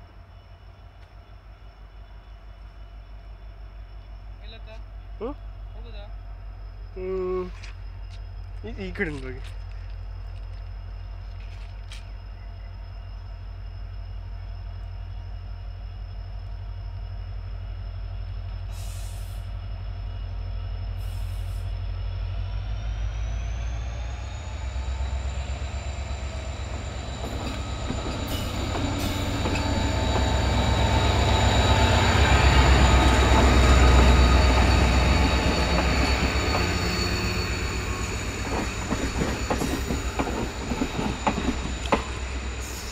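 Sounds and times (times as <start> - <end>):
diesel locomotive engine throbbing: 3.2 - 42.9.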